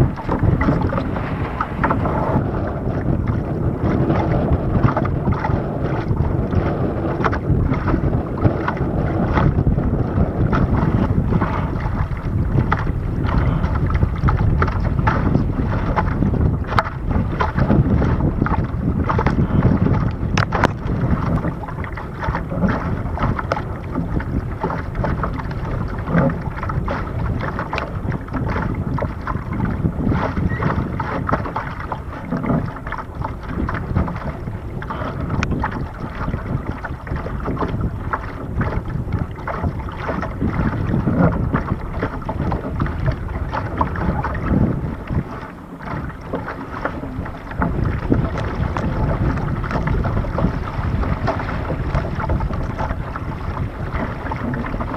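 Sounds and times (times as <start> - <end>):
waves slapping against hull: 0.0 - 54.9
wind buffeting microphone: 0.0 - 54.9.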